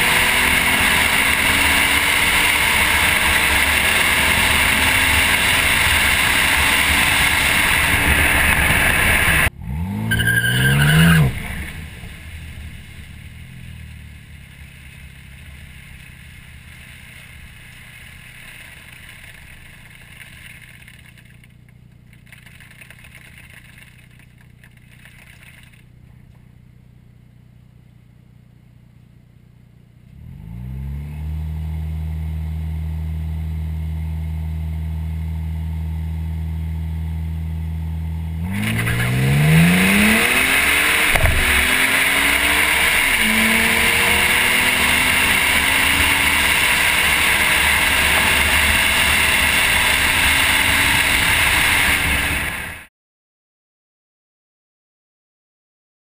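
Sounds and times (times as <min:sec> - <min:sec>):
road and wind noise: 0:00.0 - 0:27.2, 0:30.0 - 0:52.9
car engine and exhaust revving: 0:00.0 - 0:52.9.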